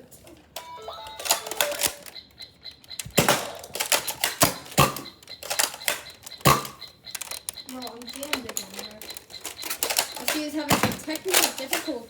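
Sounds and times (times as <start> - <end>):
toy blaster plastic clacks: 1.2 - 12.0.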